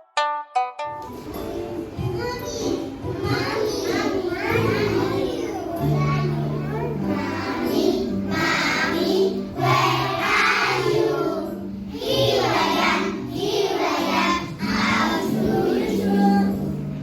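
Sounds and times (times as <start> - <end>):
backing music with low notes: 0.0 - 17.0
children singing together: 1.2 - 17.0.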